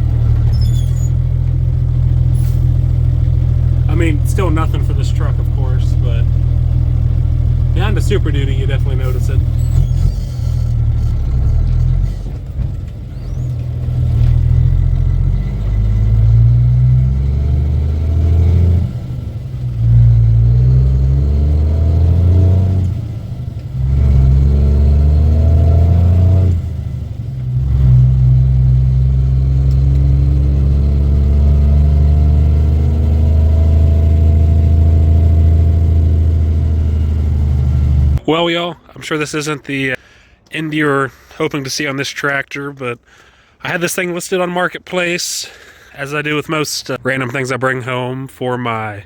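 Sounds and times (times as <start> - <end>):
diesel truck engine shifting gears: 0.0 - 40.3.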